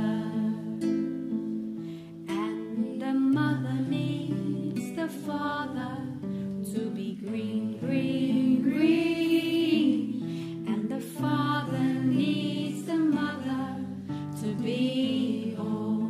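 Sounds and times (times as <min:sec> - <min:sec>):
voices singing a devotional song: 0:00.0 - 0:00.8, 0:02.3 - 0:16.0.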